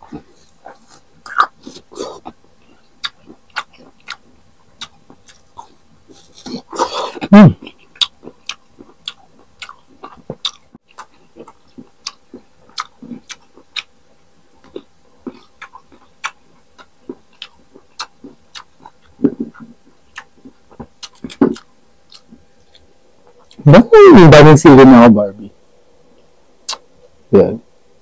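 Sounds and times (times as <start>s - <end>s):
crunchy fruit being chewed: 0.0s - 23.6s.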